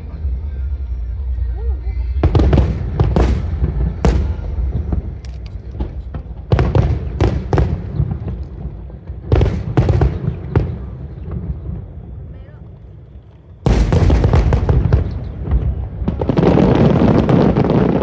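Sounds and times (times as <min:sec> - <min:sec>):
fireworks bursting: 0:00.0 - 0:18.0
steady low rumble: 0:00.0 - 0:18.0.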